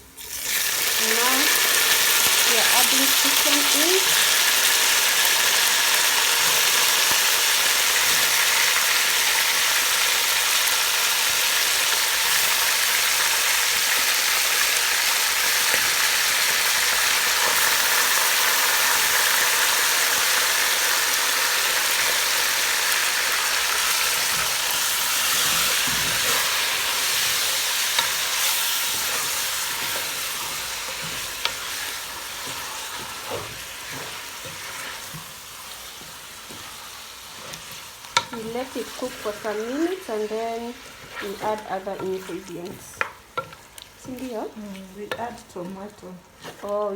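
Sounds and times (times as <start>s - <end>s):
chicken sizzling in hot oil: 0.0s - 46.9s.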